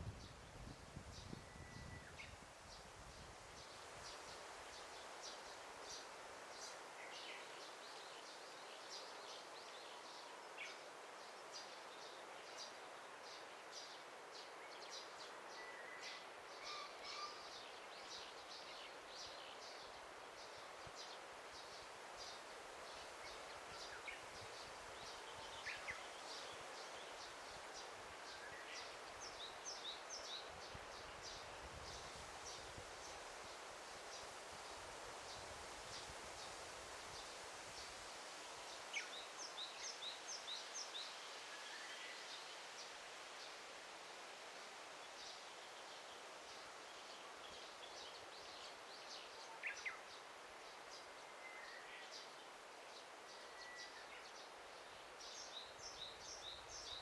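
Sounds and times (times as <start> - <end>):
songbirds chirping: 0.0 - 57.0
steady soft hiss: 0.0 - 57.0.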